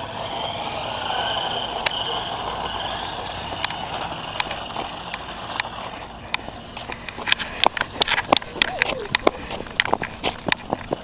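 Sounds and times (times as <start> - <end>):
toy truck electric motor whirring: 0.0 - 11.0.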